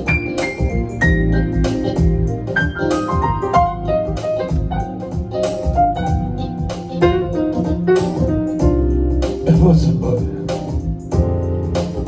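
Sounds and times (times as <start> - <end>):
bass line: 0.0 - 12.0
keyboard melody: 0.0 - 12.0.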